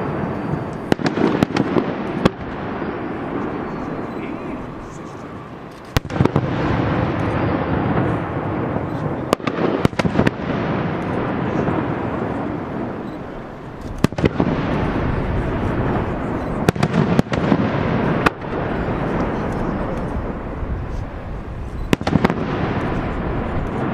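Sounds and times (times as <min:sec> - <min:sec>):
fireworks bangs: 0:00.0 - 0:23.9
fireworks rumbling and crackling: 0:00.0 - 0:23.9.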